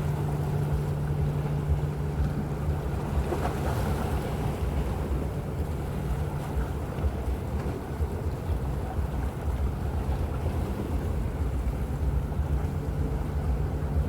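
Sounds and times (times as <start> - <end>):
ship machinery low hum: 0.0 - 14.0
wind rumbling on microphone: 0.0 - 14.0.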